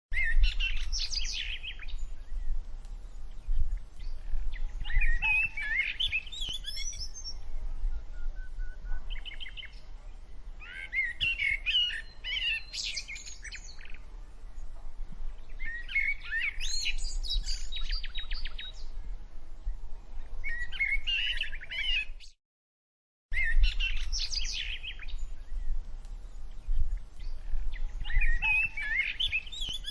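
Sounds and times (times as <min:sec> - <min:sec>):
songbird singing: 0:00.1 - 0:22.4, 0:23.3 - 0:29.9.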